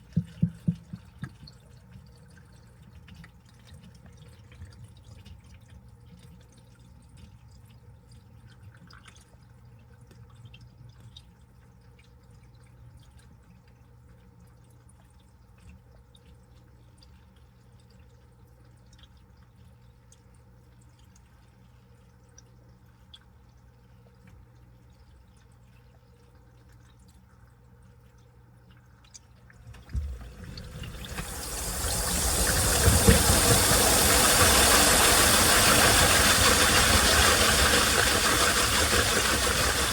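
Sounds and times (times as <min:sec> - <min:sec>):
washing machine hum: 0:00.0 - 0:39.9
water drips in drum: 0:00.0 - 0:39.9.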